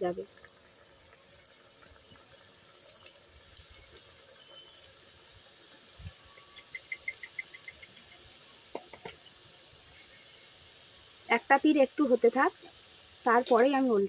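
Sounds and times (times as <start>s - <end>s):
sizzle of deep-frying in oil: 0.0s - 14.0s.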